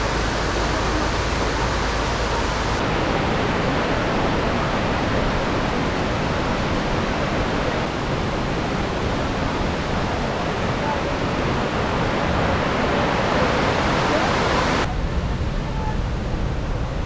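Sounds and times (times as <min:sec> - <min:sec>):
stream rushing over rocks: 0:00.0 - 0:14.9.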